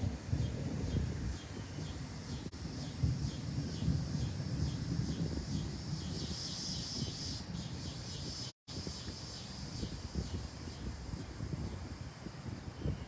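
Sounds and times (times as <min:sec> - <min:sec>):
wind buffeting microphone: 0:00.0 - 0:13.0
crickets chirping: 0:00.9 - 0:13.0.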